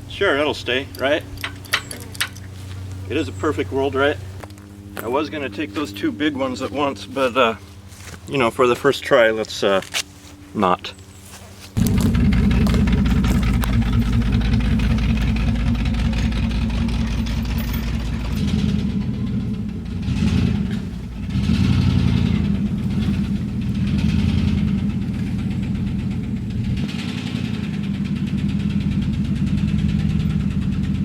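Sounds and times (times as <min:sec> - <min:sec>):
vehicle engine under load: 0:00.0 - 0:08.6, 0:11.7 - 0:31.0.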